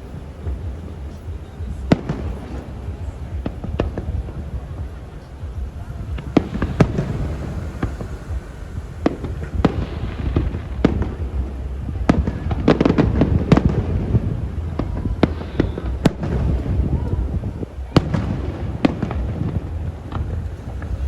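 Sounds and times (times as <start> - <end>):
fireworks bangs and cracks: 0.0 - 21.0
steady low rumble: 0.0 - 21.0.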